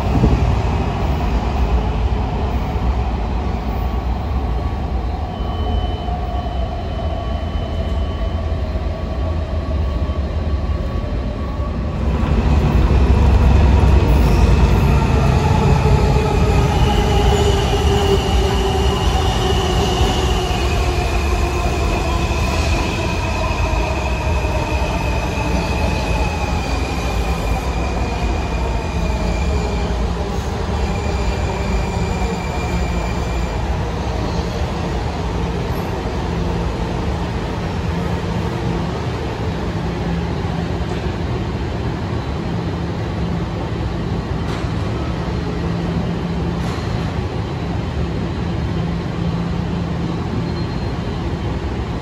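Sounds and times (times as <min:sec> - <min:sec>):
subway wheels rumbling: 0:00.0 - 0:52.0.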